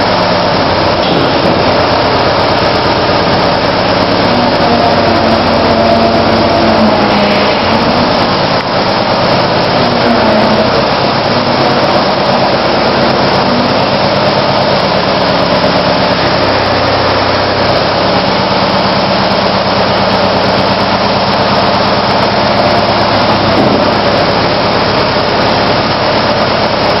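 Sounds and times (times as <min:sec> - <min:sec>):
loader engine running: 0:00.0 - 0:27.0.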